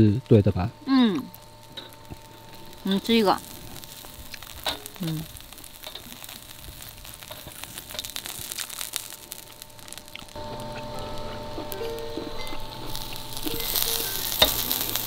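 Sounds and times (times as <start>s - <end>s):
beef sizzling in hot fat: 0.0s - 15.0s.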